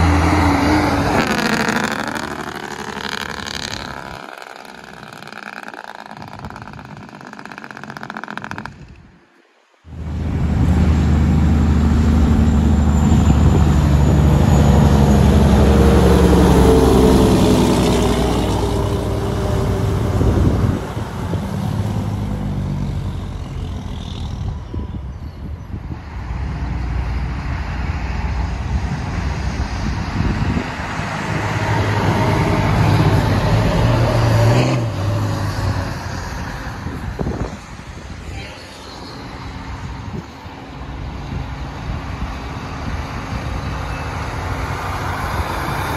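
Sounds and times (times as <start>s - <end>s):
diesel truck engine passing: 0.0s - 5.5s, 9.9s - 25.1s, 25.8s - 38.0s, 39.2s - 45.9s
quiet road traffic: 0.0s - 45.9s.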